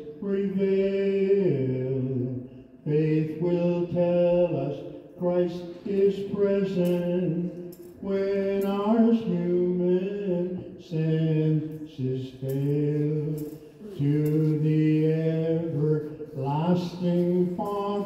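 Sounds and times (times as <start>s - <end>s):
liturgical chant singing: 0.0s - 18.0s.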